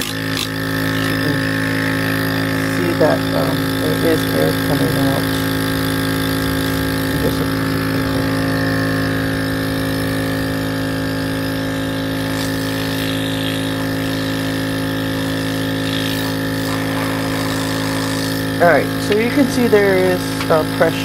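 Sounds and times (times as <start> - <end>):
nebulizer compressor humming: 0.0 - 21.0.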